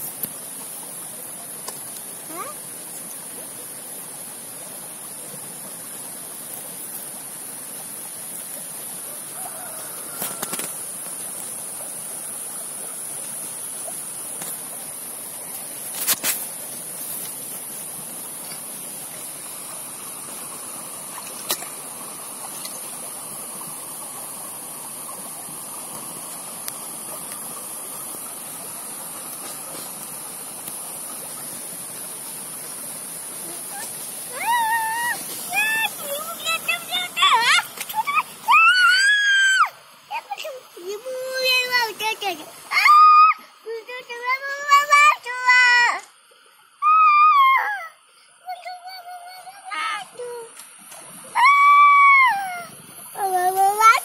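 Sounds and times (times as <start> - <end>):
constant high hiss: 0.0 - 54.0
stream trickling over rocks: 0.0 - 54.0.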